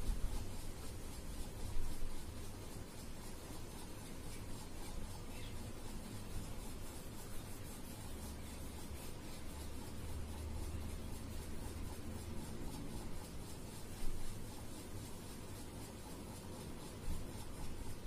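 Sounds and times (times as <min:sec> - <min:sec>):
oil pastel scratching on paper: 0:00.0 - 0:18.0
steady low hum: 0:00.0 - 0:18.0.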